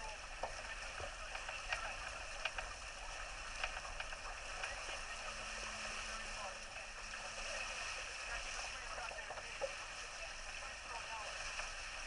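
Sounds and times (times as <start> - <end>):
spray splashes: 0.0 - 12.0
water rushing along hull: 0.0 - 12.0.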